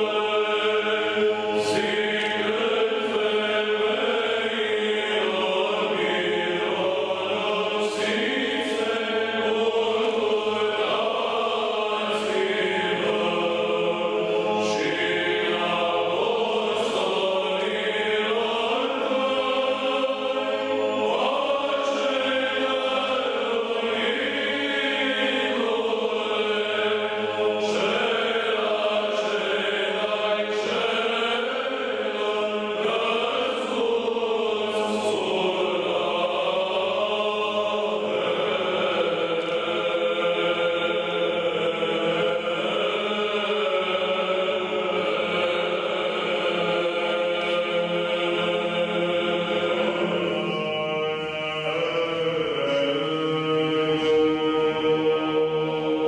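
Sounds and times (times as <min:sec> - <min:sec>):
choir singing church chant: 0:00.0 - 0:56.0.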